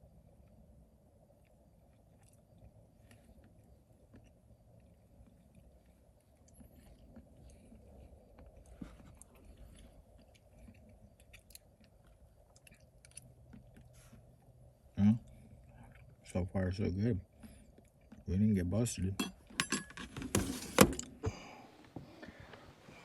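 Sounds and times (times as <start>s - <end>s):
faint chewing: 0.2s - 19.5s.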